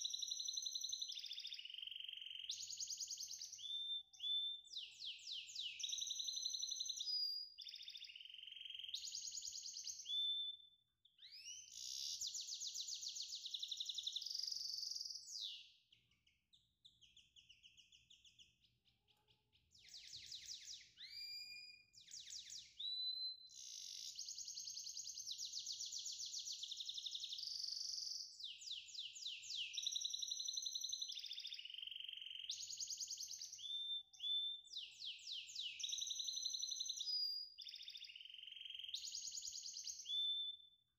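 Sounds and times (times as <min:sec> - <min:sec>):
songbird trilling and whistling: 0:00.0 - 0:18.8, 0:19.7 - 0:40.8.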